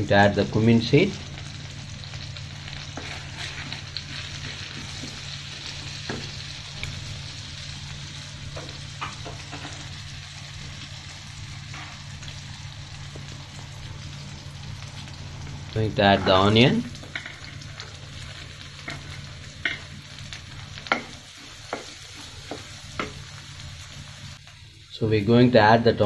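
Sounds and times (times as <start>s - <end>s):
seeds sizzling in butter: 0.4s - 25.5s.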